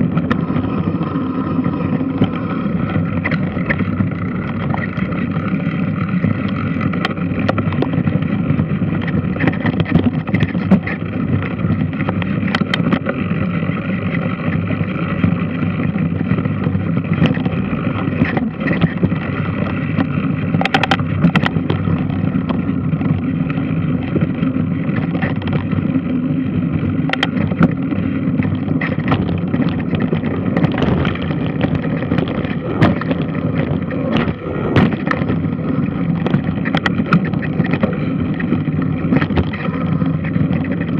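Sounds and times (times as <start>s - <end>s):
sharp clicks and knocks: 1.6s - 40.9s.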